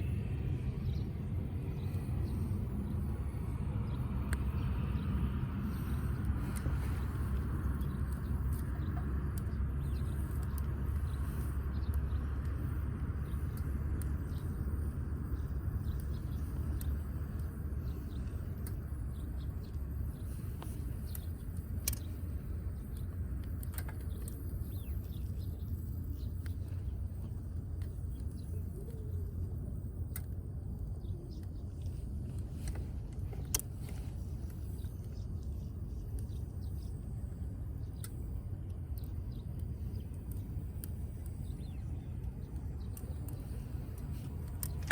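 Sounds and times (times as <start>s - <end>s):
low steady rumble: 0.0s - 44.9s
firewood crackling and popping: 5.6s - 44.9s.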